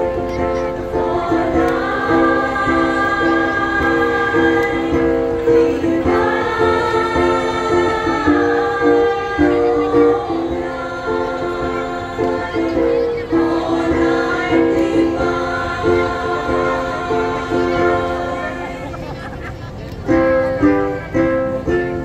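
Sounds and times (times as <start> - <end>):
mixed choir singing: 0.0 - 19.6.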